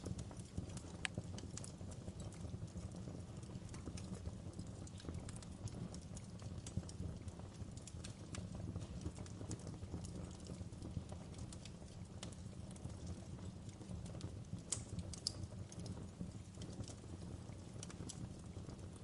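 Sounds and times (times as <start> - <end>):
low rumble of burning logs: 0.0 - 19.0
wood fire crackling and snapping: 0.0 - 19.0.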